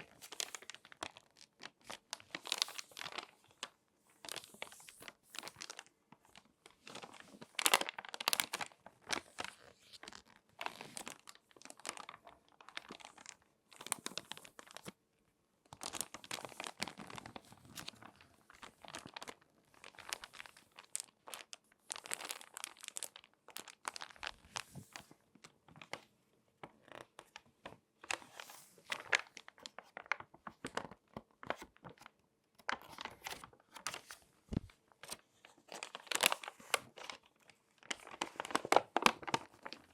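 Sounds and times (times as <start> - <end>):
magazine pages crinkling: 0.0 - 14.9, 15.8 - 25.2, 26.9 - 39.9.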